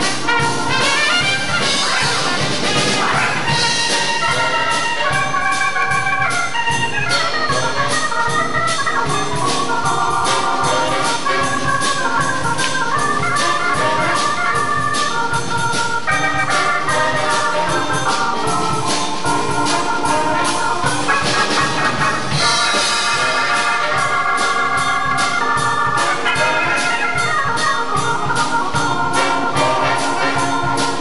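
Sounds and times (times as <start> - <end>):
drum kit beat with cymbals: 0.0 - 31.0
organ playing chords and runs: 0.0 - 31.0.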